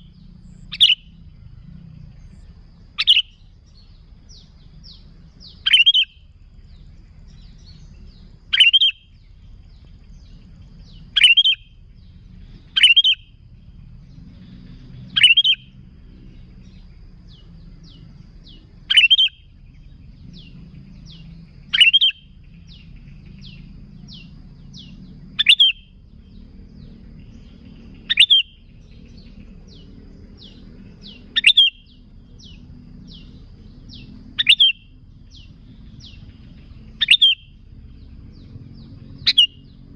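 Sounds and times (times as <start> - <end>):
bulbul calling: 0.0 - 39.9
low steady hum: 0.0 - 39.9.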